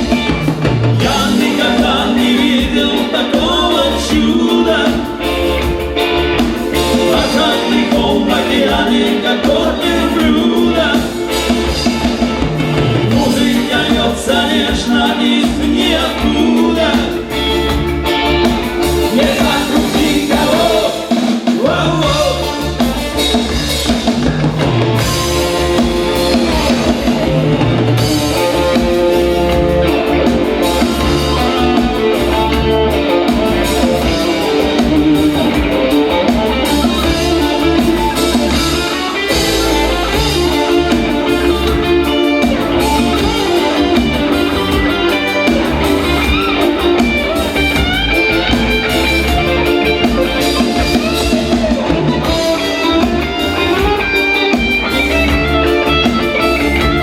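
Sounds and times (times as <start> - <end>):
bass: 0.0 - 57.0
drum kit: 0.0 - 57.0
electric guitar: 0.0 - 57.0.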